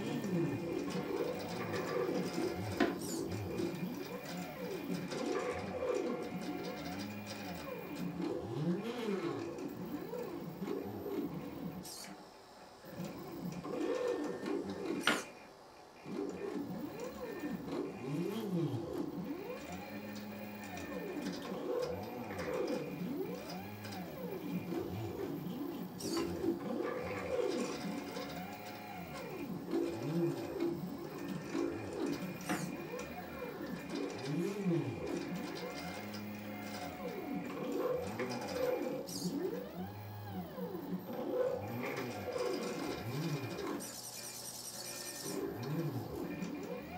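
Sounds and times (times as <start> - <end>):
stepper motors whining: 0.0 - 12.2, 12.8 - 46.9.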